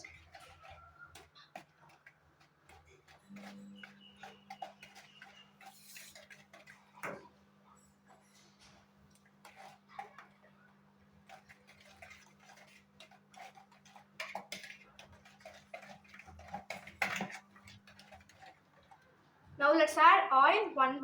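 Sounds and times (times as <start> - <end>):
spoon stirring in a bowl: 0.0 - 19.2.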